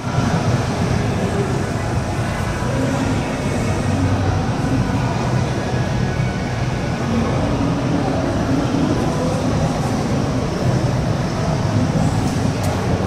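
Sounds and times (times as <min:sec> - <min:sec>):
crowded hall din: 0:00.0 - 0:13.0.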